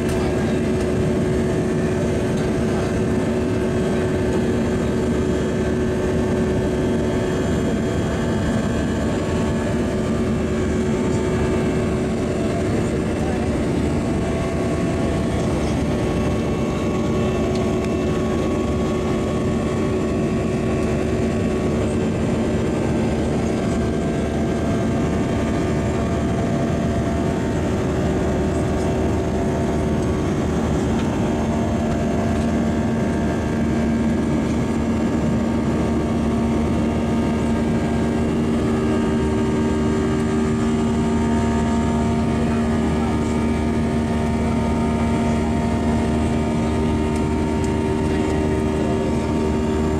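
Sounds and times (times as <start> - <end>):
airplane engines droning in cabin: 0.0 - 49.9.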